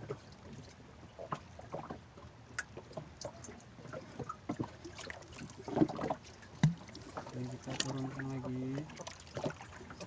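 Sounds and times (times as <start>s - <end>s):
water lapping against hull: 0.0s - 10.0s.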